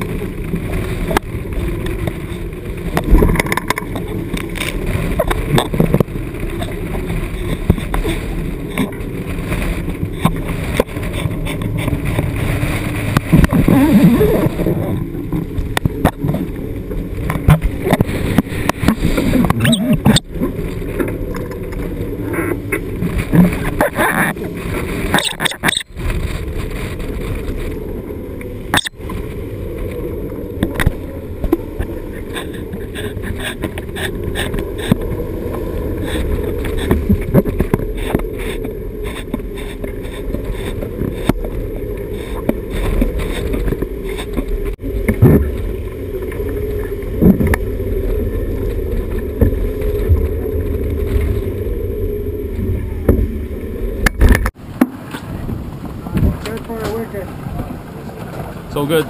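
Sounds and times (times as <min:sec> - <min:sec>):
strong wind buffeting microphone: 0:00.0 - 0:59.0.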